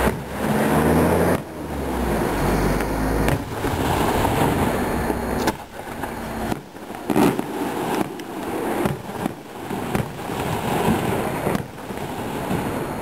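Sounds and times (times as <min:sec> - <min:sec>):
fireworks crackle: 0:00.0 - 0:13.0
fireworks launching and bursting: 0:00.0 - 0:13.0.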